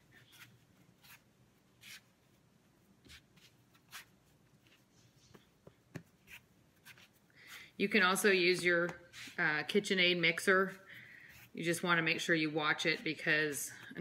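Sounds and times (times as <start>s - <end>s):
hands kneading dough: 0.0s - 13.3s.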